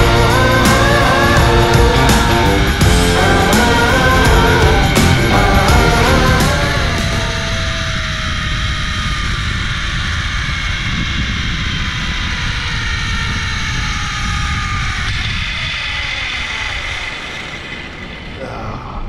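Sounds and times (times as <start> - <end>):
pulleys whining on cable: 0.0 - 18.7
wind rushing over microphone: 0.0 - 19.0.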